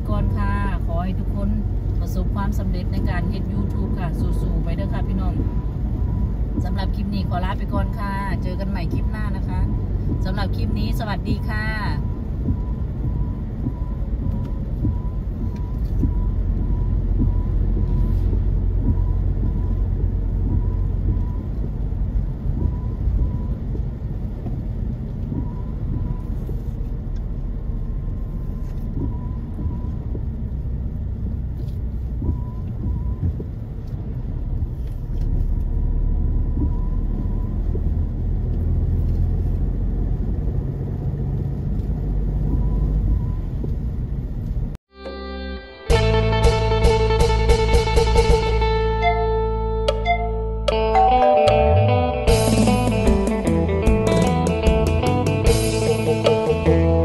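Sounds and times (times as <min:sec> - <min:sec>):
car driving on wet road: 0:00.0 - 0:44.8, 0:45.9 - 0:49.4, 0:51.6 - 0:57.0.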